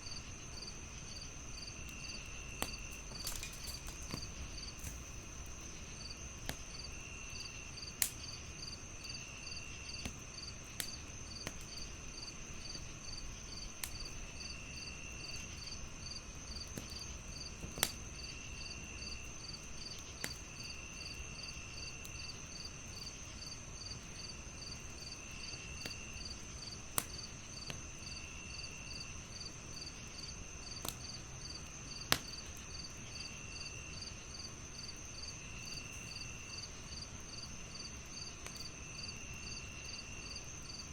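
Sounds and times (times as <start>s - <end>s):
crickets chirping: 0.0s - 40.9s
high insect trill: 0.0s - 40.9s
log fire crackling: 0.0s - 40.9s.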